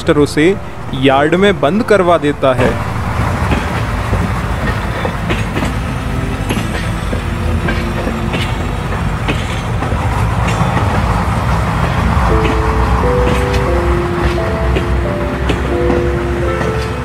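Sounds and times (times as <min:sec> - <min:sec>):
train rumbling along track: 0:00.0 - 0:17.0
wheels clacking over rail joints: 0:02.6 - 0:17.0.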